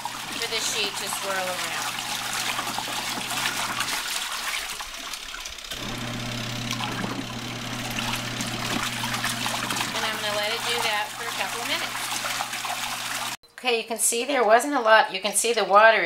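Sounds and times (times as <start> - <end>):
washing machine motor hum: 0.0 - 13.4
water sloshing: 0.0 - 13.4.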